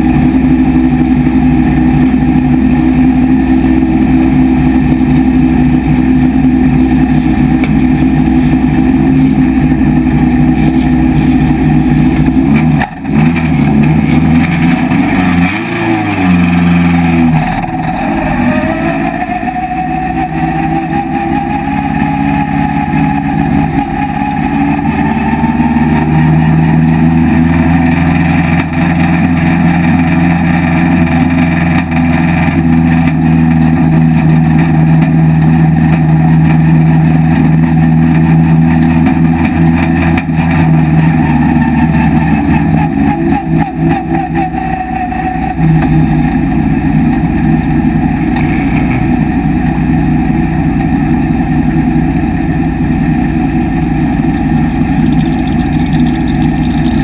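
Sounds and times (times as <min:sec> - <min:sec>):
race car engine running at low revs: 0:00.0 - 0:57.0.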